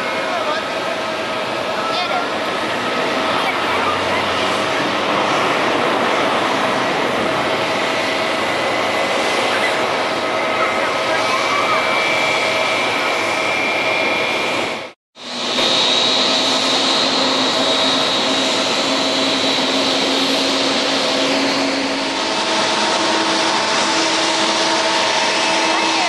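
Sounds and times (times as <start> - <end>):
jet engine roar with fan whine: 0.0 - 26.0.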